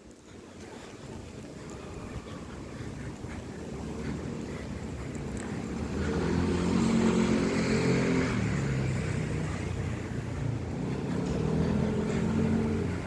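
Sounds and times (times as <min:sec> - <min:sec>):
passing vehicle engine hum: 0:02.1 - 0:13.0.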